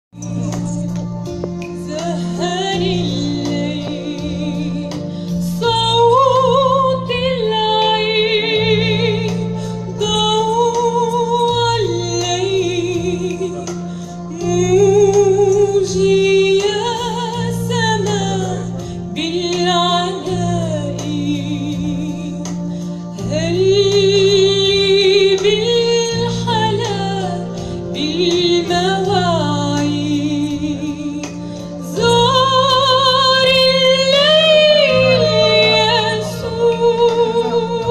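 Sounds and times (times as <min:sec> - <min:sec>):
electronic keyboard chords: 0:00.1 - 0:37.9
woman singing a hymn: 0:00.2 - 0:37.9.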